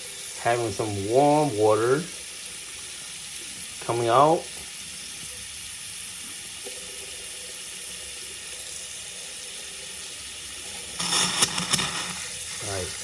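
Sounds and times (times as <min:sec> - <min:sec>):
tap water running: 0:00.0 - 0:13.0.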